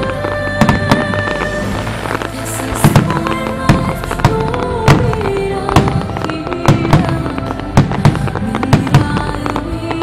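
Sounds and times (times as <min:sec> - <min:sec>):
fireworks bursting: 0:00.0 - 0:10.0
music playing: 0:00.0 - 0:10.0.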